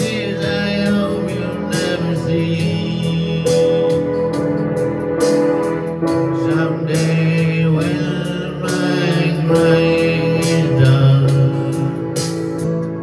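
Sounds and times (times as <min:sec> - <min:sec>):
man singing a slow ballad: 0:00.0 - 0:04.7, 0:06.0 - 0:12.7
electronic keyboard: 0:00.0 - 0:13.0.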